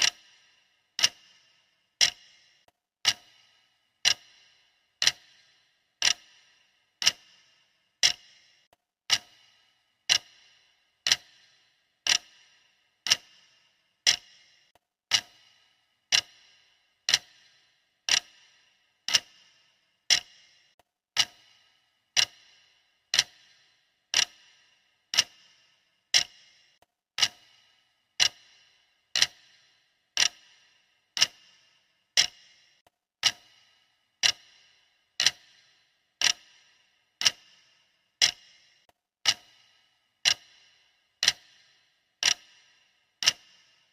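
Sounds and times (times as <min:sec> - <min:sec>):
clock ticking: 0:00.0 - 0:43.9.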